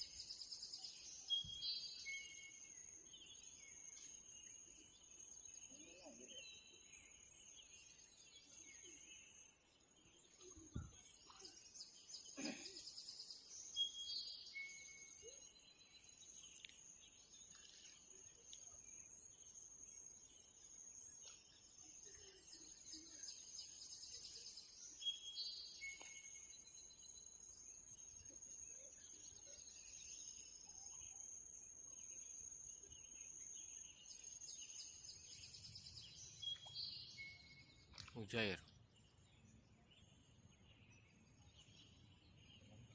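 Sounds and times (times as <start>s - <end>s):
small birds chirping and trilling: 0.0s - 42.9s.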